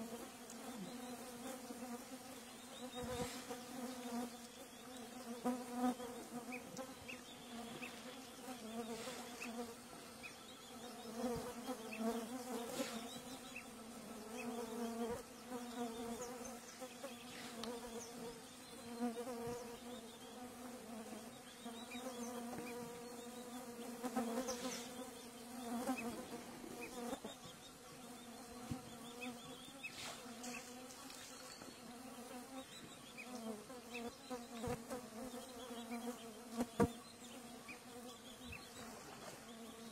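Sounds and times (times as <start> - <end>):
flying insects buzzing: 0.0 - 39.9.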